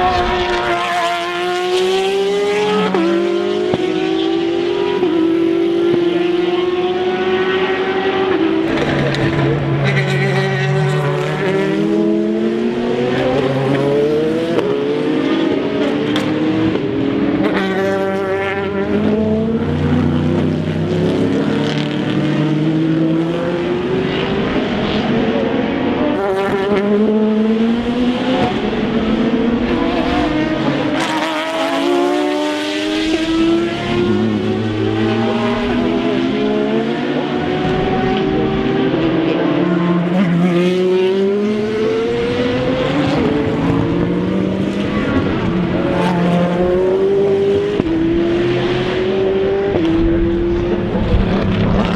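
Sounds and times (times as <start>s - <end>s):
race car engines accelerating: 0.0s - 51.9s.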